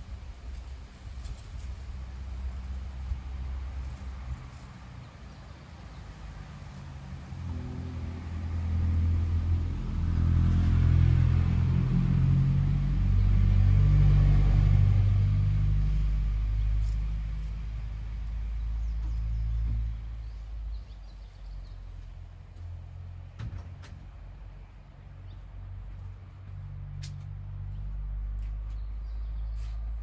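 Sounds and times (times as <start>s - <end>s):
vehicle engine passing by: 0.6s - 23.4s, 24.0s - 30.0s.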